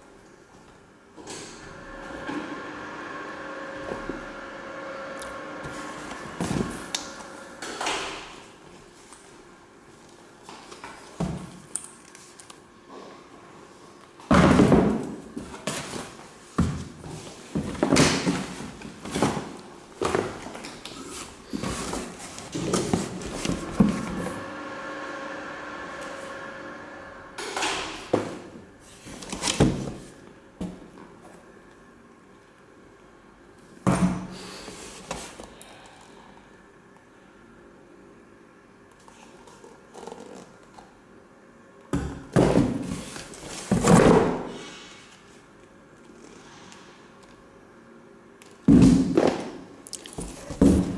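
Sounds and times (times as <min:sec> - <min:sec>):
steady multi-tone hum: 0:00.0 - 0:50.9.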